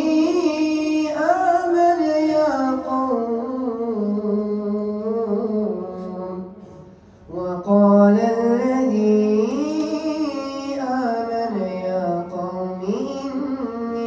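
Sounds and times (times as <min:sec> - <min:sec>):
boy reciting melodically: 0:00.0 - 0:14.0.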